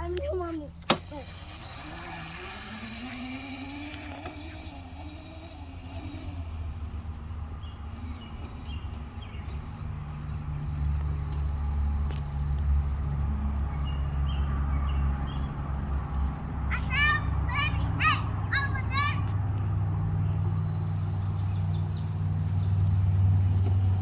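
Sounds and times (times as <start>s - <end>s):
dirt bike engine running: 0.8s - 12.5s, 14.2s - 24.0s.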